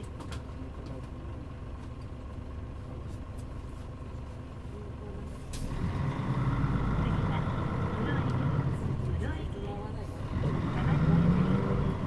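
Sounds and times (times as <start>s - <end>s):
bus engine low drone: 0.0s - 12.0s.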